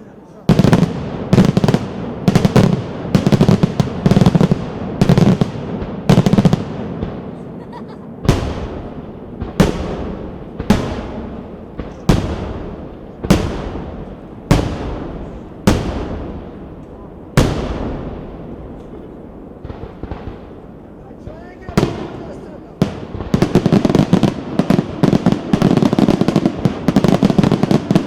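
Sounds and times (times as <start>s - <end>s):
fireworks crackling bursts: 0.0s - 28.0s.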